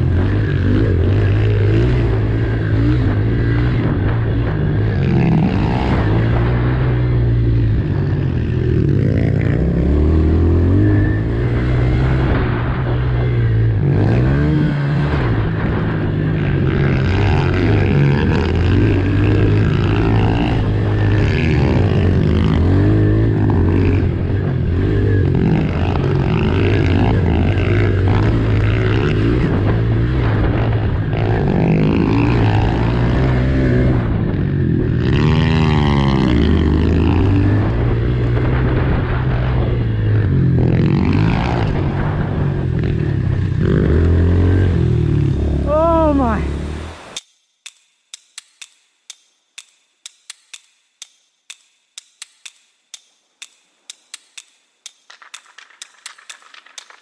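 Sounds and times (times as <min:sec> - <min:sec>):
small motorbike engines revving: 0:00.0 - 0:47.2.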